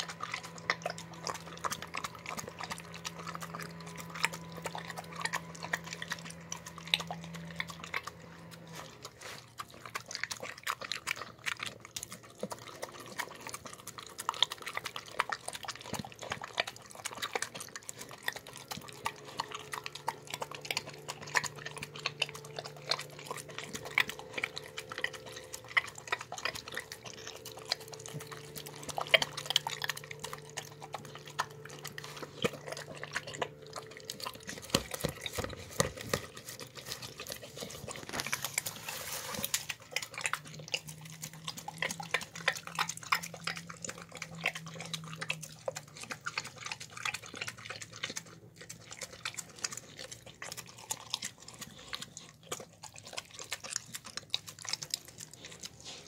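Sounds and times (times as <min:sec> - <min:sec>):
dog lapping and chewing: 0:00.0 - 0:56.0.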